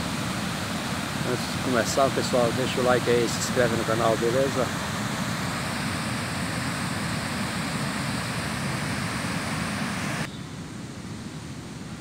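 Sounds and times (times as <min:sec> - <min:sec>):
rushing white water: 0:00.0 - 0:10.3.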